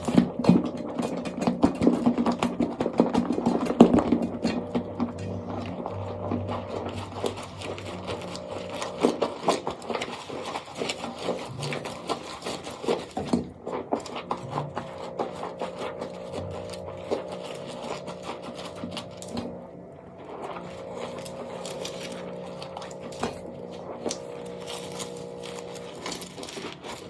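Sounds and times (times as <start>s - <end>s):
soap crackling and crunching: 0.0s - 27.0s.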